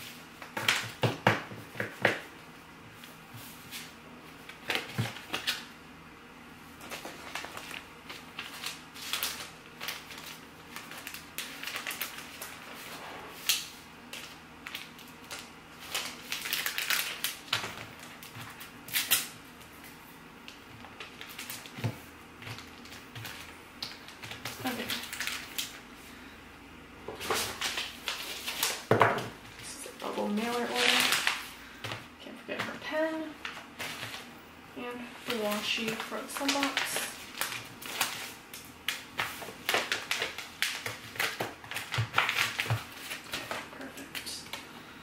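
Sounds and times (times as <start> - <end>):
paper cards rustling and tapping: 0.4 - 2.3, 6.8 - 25.8, 27.1 - 32.8, 33.4 - 34.3, 35.2 - 44.7.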